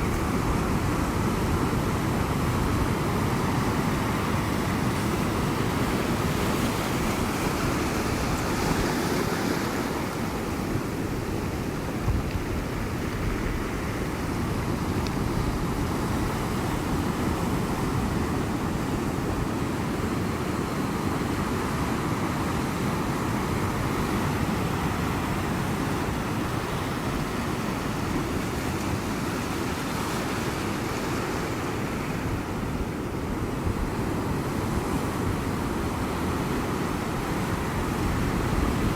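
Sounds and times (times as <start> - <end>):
ocean waves washing on shore: 0.0 - 38.9.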